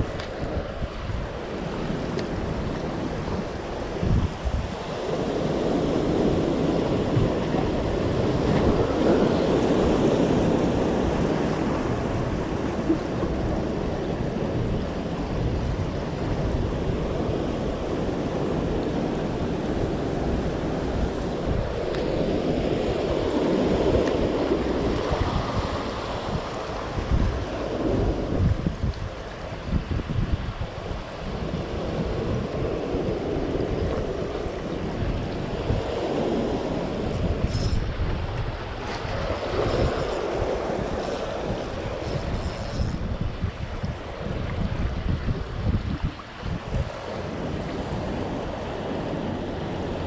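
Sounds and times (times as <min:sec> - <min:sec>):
surf washing against rocks: 0:00.0 - 0:50.0
wind buffeting microphone: 0:00.0 - 0:50.0.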